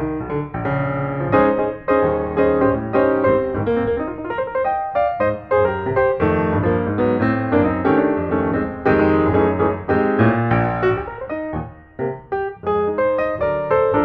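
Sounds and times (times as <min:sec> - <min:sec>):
lively march-like piano music: 0:00.0 - 0:14.0.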